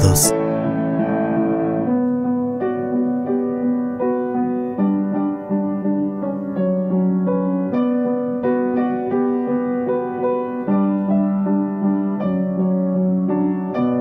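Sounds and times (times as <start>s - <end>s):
slow keyboard melody: 0.0s - 14.0s.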